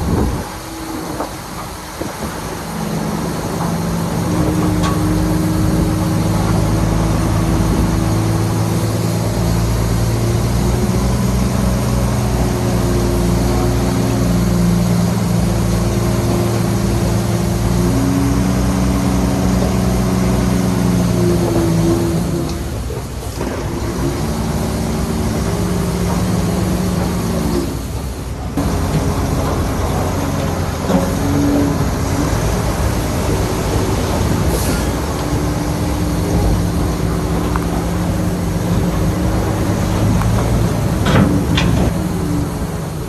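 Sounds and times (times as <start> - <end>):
bulldozer diesel engine under load: 0.0 - 43.0.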